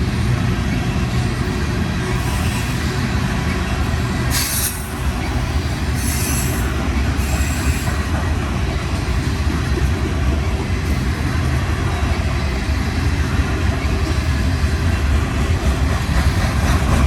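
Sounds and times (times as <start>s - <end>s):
train wheels rumbling on rail: 0.0s - 17.0s
train wheels screeching: 0.0s - 17.0s.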